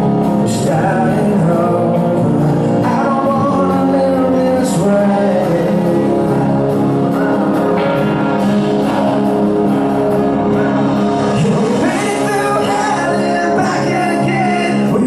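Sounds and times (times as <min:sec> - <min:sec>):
person singing: 0:00.0 - 0:08.0, 0:10.5 - 0:15.0
guitars ringing on held chords: 0:00.0 - 0:15.0.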